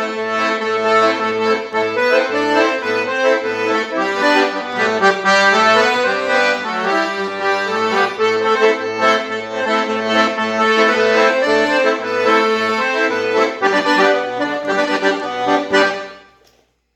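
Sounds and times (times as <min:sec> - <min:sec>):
sustained chords: 0:00.0 - 0:16.1.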